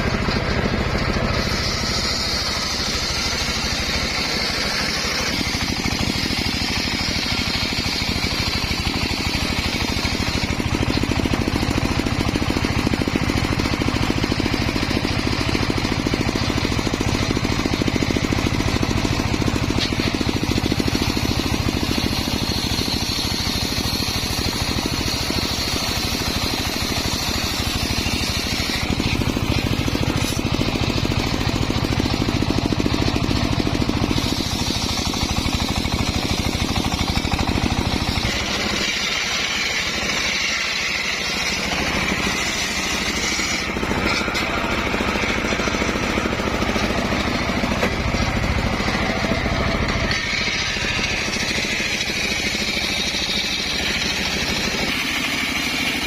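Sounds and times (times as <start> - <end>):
high saw blade whine: 0.0 - 56.0
sawmill engine droning: 0.0 - 56.0.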